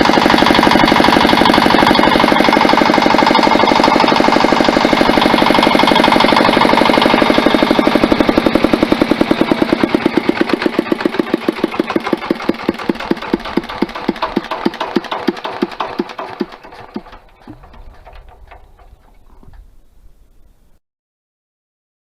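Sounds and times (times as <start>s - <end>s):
diesel engine winding down: 0.0s - 19.4s.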